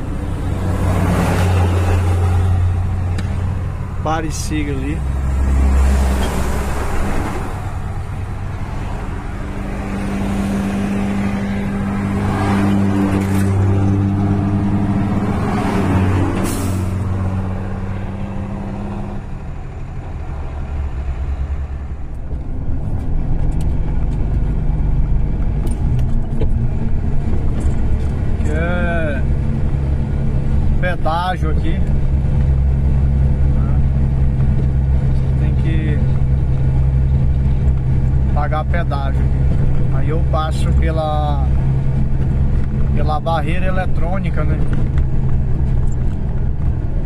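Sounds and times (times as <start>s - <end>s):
passing traffic whooshes: 0.0s - 47.0s
road and wind noise: 0.0s - 47.0s
truck diesel engine running: 0.0s - 47.0s.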